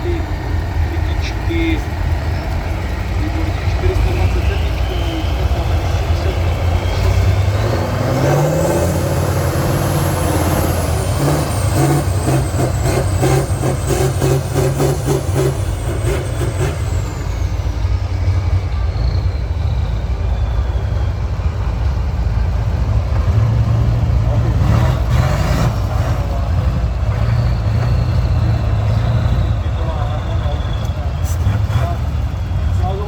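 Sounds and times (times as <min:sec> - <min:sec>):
diesel truck engine working hard: 0:00.0 - 0:33.0
high turbo whine: 0:00.0 - 0:33.0.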